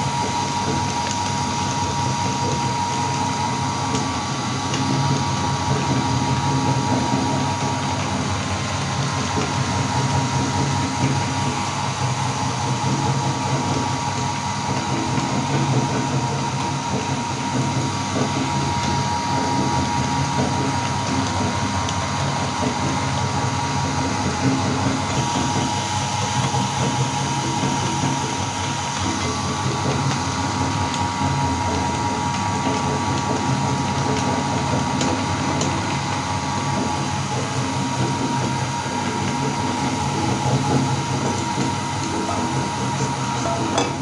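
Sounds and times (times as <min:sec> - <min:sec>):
electric meat grinder running: 0:00.0 - 0:44.0.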